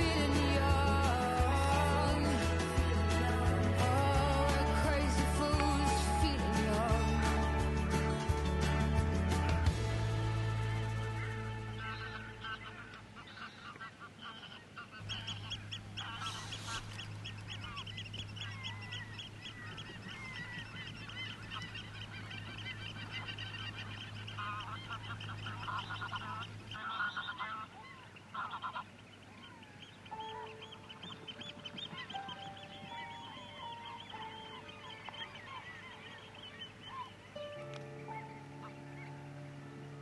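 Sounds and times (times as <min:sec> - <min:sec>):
geese honking: 0:06.3 - 0:40.0.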